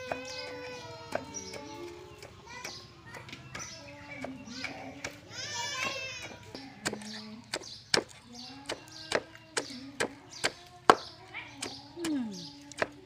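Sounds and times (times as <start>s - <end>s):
pestle pounding in wooden mortar: 0.0s - 13.0s.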